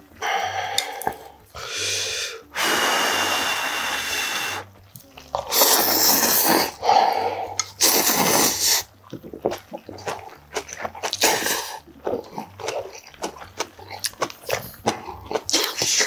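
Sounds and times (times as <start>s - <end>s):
person slurping noodles: 0.2s - 4.7s, 5.4s - 10.4s, 11.0s - 13.3s, 14.4s - 16.0s.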